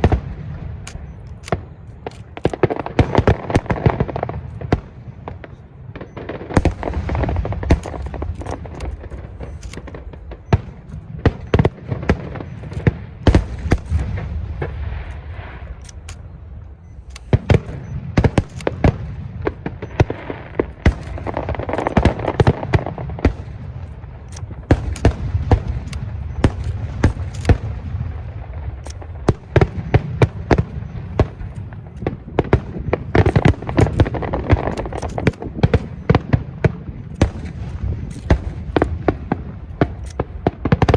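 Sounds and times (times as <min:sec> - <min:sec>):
fireworks bangs: 0:00.0 - 0:16.6, 0:17.2 - 0:40.9
fireworks rumble and crackle: 0:00.0 - 0:40.9.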